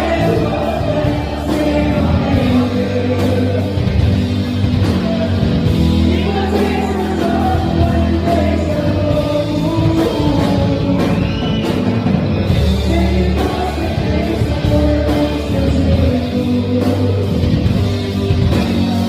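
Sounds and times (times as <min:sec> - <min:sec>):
person singing: 0:00.0 - 0:04.1, 0:04.8 - 0:11.5, 0:12.5 - 0:18.0
rock band playing: 0:00.0 - 0:19.0.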